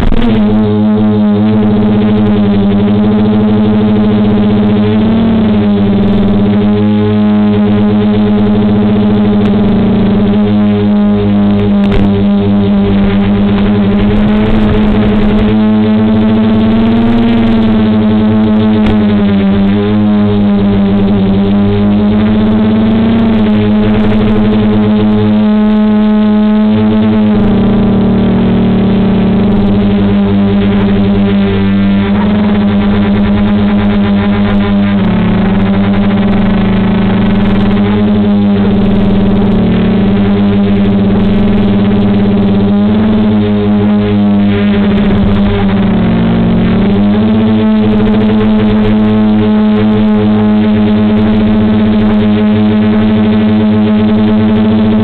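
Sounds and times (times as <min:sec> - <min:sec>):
quadcopter motors humming: 0:00.0 - 0:55.0.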